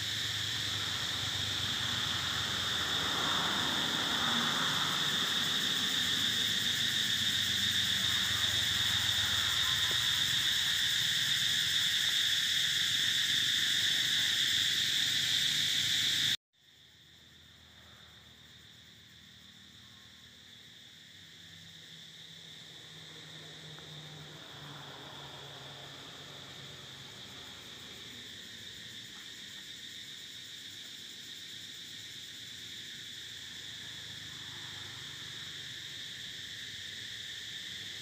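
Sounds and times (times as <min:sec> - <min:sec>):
high-pitched insect drone: 0:00.0 - 0:38.0.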